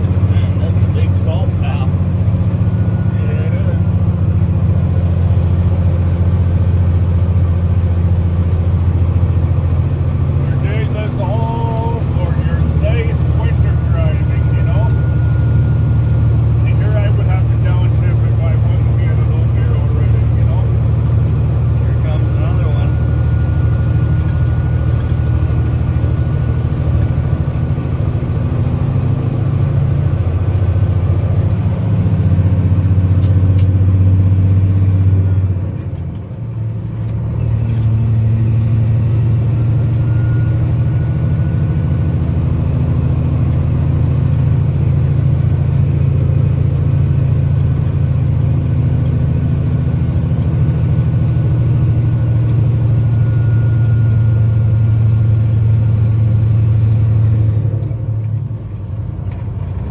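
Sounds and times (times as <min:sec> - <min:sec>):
truck diesel engine pulling: 0:00.0 - 0:59.9.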